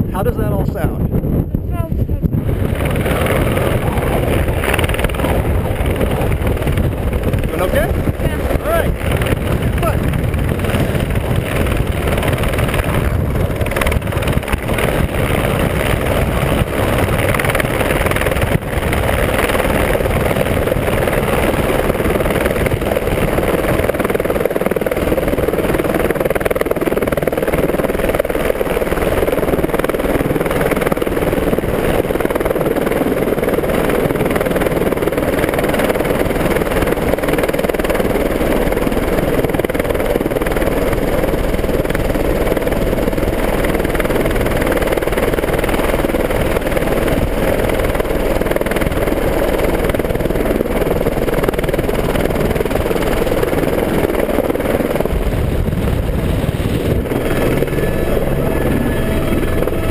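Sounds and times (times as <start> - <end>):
helicopter rotor and turbine: 0.0 - 59.9.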